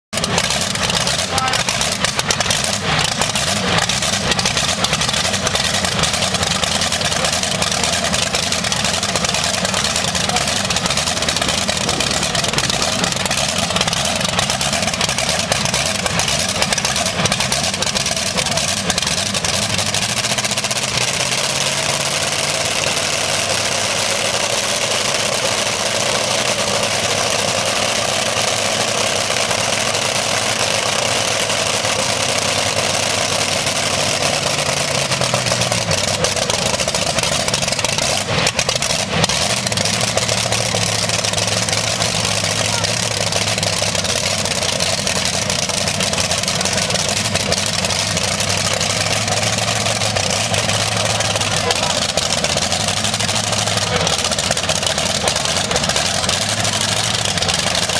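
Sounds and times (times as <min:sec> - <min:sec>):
tractor engine idling loudly: 0:00.1 - 0:57.9.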